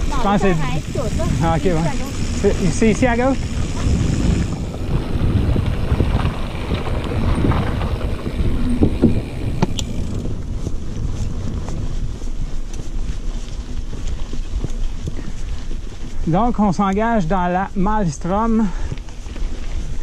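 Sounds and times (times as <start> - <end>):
bike clicks and rattles: 0.0 - 17.5, 18.2 - 20.0
tyres rolling on gravel trail: 0.0 - 20.0
wind buffeting microphone: 0.0 - 20.0.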